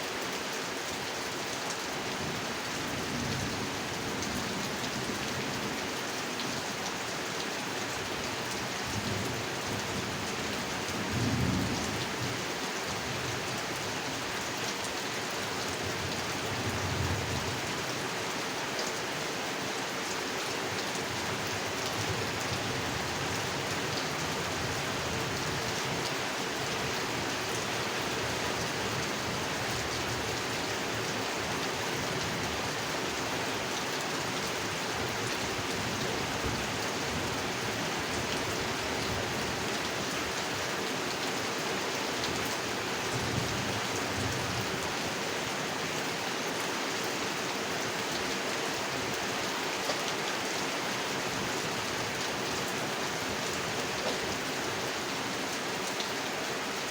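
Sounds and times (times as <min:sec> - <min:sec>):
rain falling on a pond: 0:00.0 - 0:56.9.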